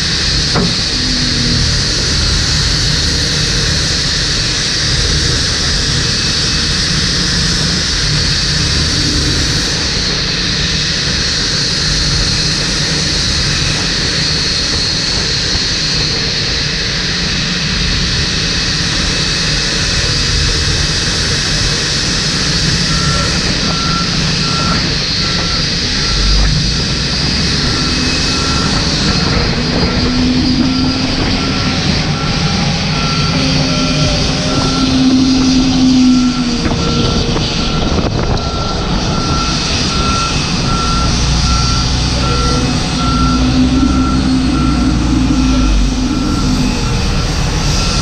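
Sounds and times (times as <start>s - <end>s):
jet engines whining: 0.0s - 48.0s
tug engine: 0.0s - 48.0s.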